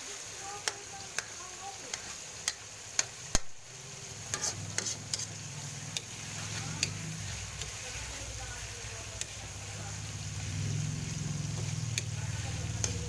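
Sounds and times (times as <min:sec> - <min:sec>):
frying oil sizzling: 0:00.0 - 0:13.0.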